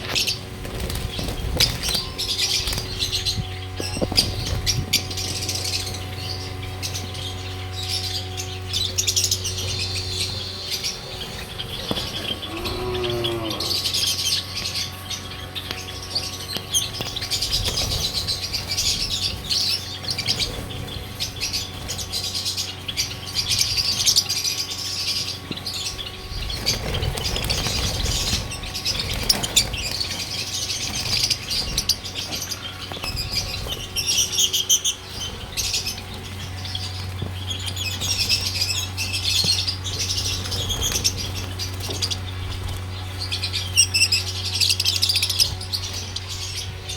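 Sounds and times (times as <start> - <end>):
small birds chirping: 0.0 - 46.9
steady low hum: 0.0 - 46.9.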